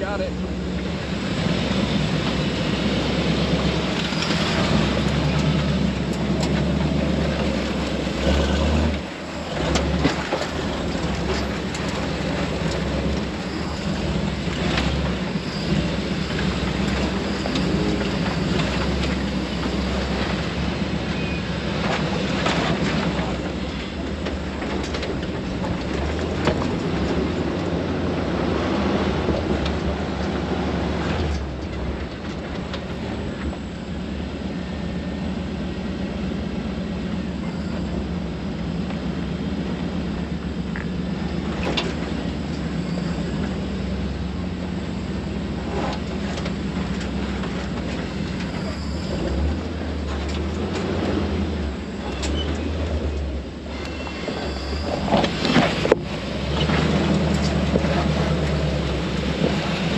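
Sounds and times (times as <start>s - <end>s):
engine running at crawling speed: 0.0s - 59.9s.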